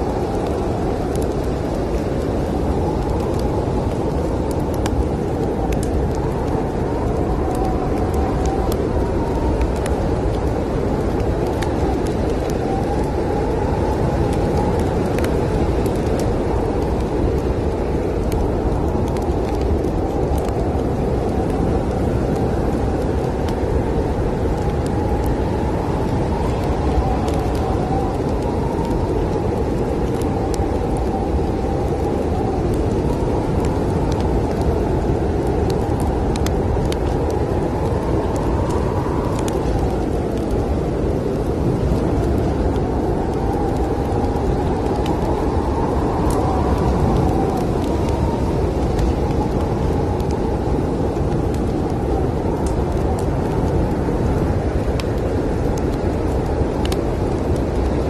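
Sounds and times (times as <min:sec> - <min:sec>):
howling snowstorm wind: 0:00.0 - 0:58.0
log fire crackling: 0:00.0 - 0:58.0.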